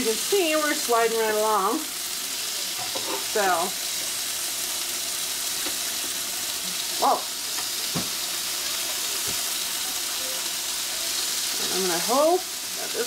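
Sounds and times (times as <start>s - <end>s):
patties sizzling on grill: 0.0s - 13.0s.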